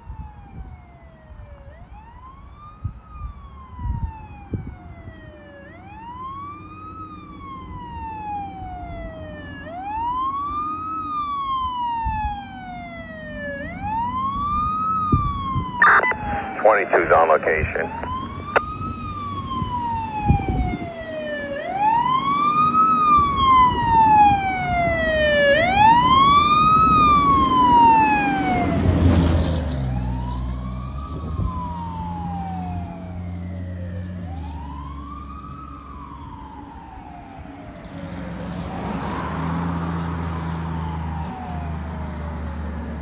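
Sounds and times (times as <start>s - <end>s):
fire engine wail siren: 0.0s - 43.0s.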